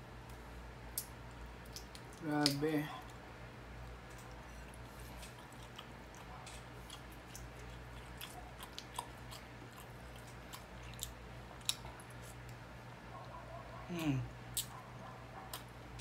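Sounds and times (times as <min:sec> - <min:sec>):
steady low hum: 0:00.0 - 0:16.0
chewing shrimp: 0:00.9 - 0:03.2, 0:03.8 - 0:16.0.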